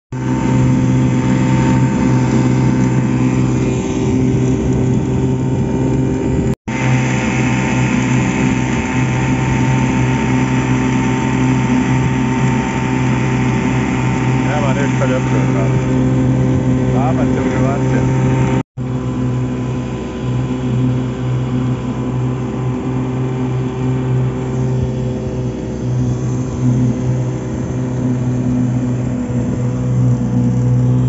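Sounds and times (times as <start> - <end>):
outboard motor droning: 0.1 - 31.0.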